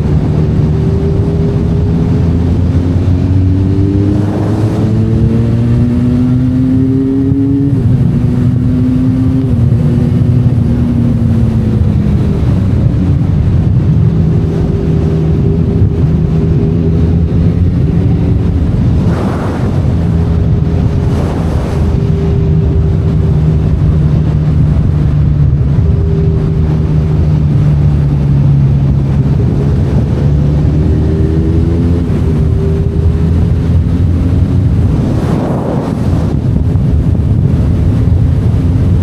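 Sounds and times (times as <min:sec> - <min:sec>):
motorcycle engine running: 0:00.0 - 0:39.0
wind on microphone: 0:00.0 - 0:39.0.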